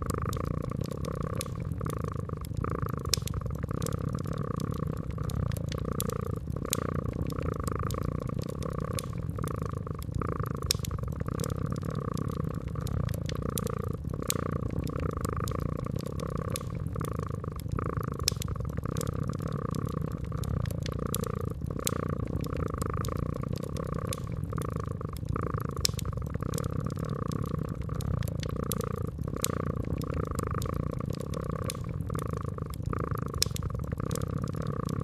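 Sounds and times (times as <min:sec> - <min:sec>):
cat purring: 0:00.0 - 0:35.0
wood fire crackling: 0:00.0 - 0:35.0.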